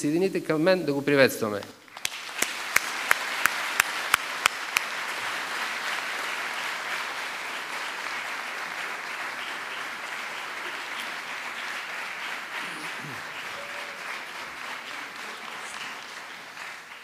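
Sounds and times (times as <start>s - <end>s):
audience applauding: 1.9s - 17.0s.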